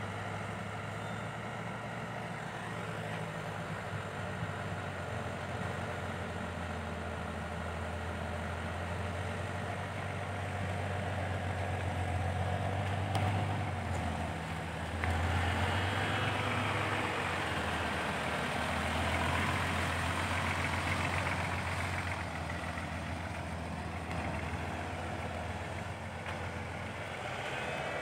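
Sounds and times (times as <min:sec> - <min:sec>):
dump truck diesel engine: 0:00.0 - 0:28.0.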